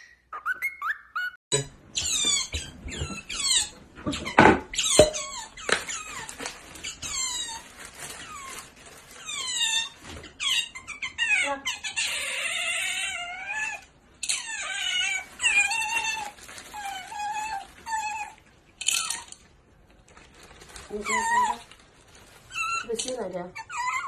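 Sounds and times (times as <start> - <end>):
high-pitched squeaky animal calls: 0.0 - 19.4, 22.5 - 24.0.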